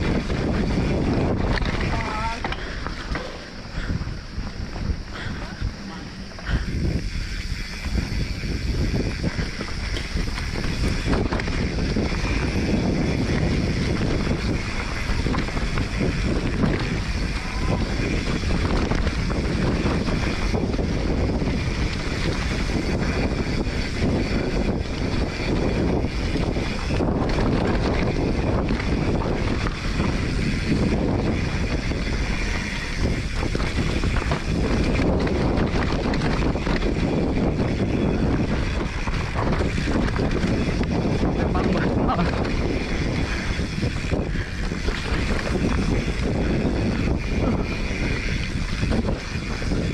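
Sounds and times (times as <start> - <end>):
bike knocks and rattles: 0.0 - 49.9
bike tyres rolling over dirt: 0.0 - 49.9
wind buffeting microphone: 0.0 - 49.9.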